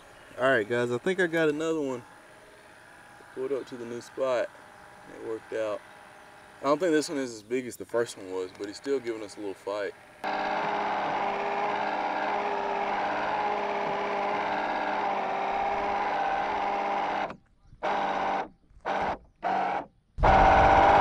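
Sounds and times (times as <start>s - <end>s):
small electric motor whining: 0.0s - 7.4s, 8.0s - 21.0s.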